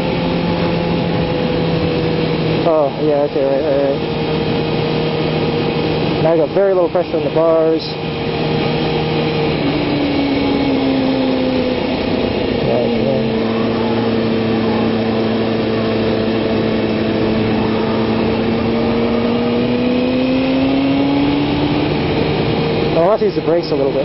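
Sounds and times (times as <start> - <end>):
motorcycle engine running: 0.0 - 24.0
rushing wind noise: 0.0 - 24.0.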